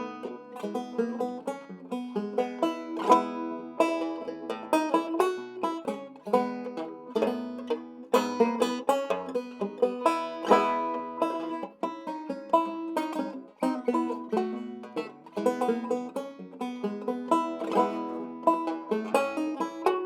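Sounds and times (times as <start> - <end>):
banjo playing ragtime: 0.0 - 20.0.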